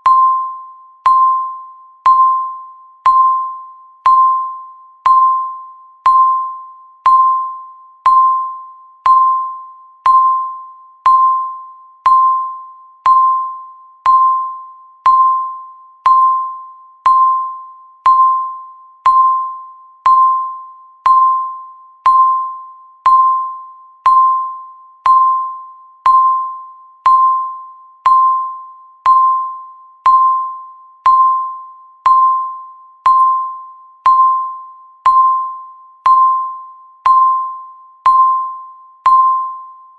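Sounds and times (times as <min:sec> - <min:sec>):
timer ticking with ringing ping: 0:00.0 - 0:39.9.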